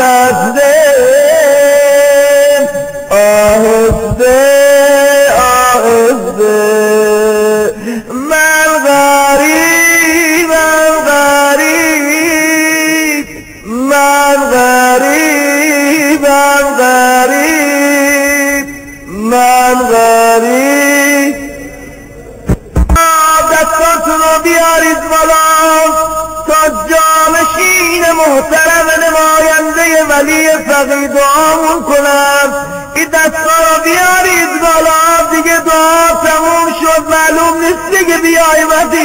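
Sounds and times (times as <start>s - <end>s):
man chanting a lament: 0.0s - 39.0s.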